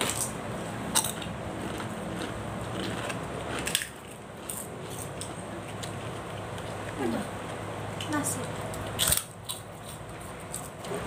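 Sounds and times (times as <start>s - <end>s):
person chewing food: 0.0s - 7.0s, 8.7s - 11.0s.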